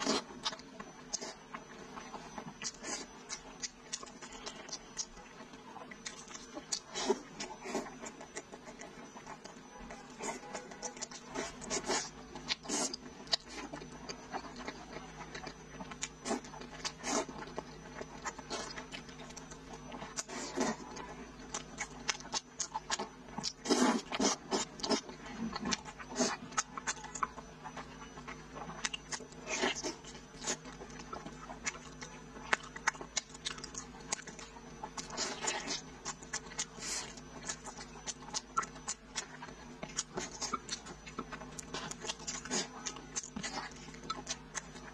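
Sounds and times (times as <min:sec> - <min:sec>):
chewing and biting: 0:00.0 - 0:44.9.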